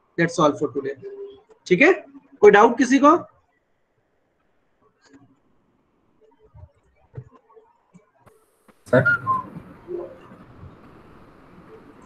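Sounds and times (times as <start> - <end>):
open microphone background noise: 0.0 - 12.0.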